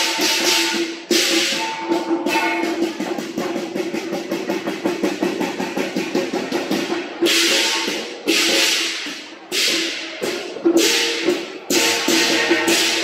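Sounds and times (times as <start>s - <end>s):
cymbal crashes: 0.0s - 13.0s
rapid drumming: 0.0s - 13.0s.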